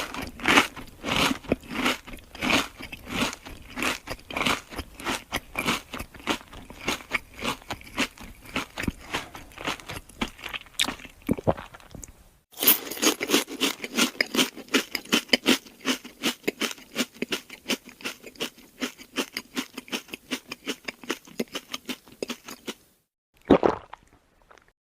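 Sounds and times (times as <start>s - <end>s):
crunching crisp food: 0.0s - 22.8s.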